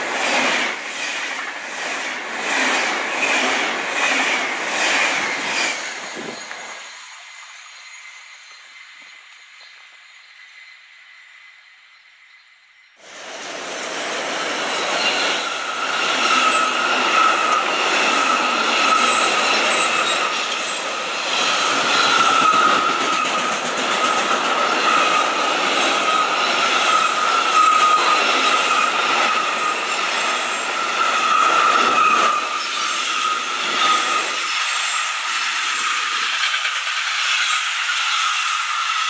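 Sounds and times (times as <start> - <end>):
train wheels squealing: 0.0 - 39.0.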